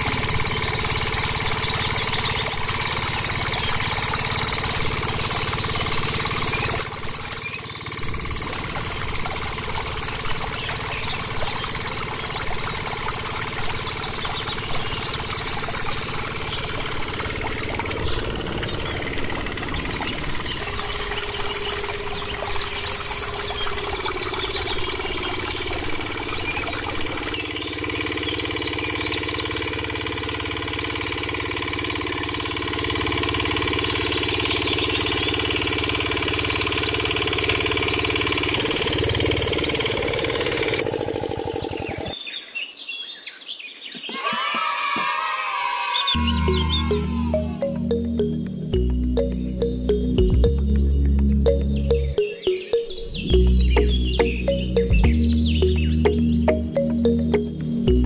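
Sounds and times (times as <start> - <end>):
small engine chugging: 0.0 - 42.2, 46.2 - 58.0.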